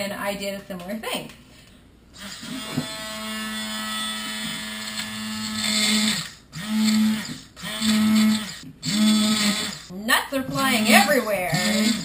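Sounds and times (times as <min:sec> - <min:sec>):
immersion blender motor humming: 0:02.2 - 0:12.0.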